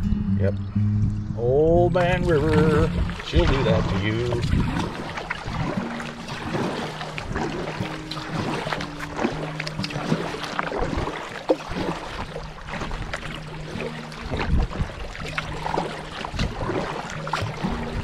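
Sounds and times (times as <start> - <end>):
paddle splashing in water: 2.0 - 18.0.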